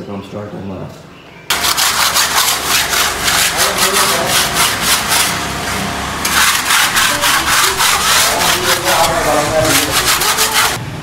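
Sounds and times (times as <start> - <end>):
hand tool scraping strokes: 1.5 - 10.8.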